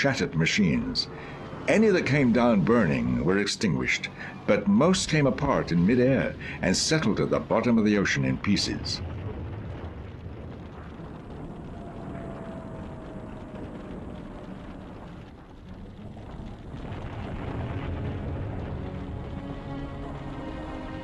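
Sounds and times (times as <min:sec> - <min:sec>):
faint falling whine: 0:00.0 - 0:21.0
warplane engines rumbling: 0:00.0 - 0:21.0.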